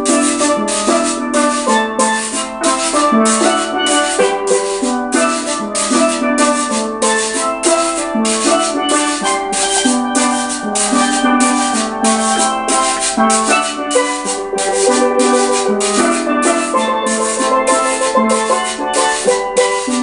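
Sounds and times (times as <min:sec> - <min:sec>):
hissing percussion strokes: 0:00.0 - 0:20.0
steel pan calypso tune: 0:00.0 - 0:20.0.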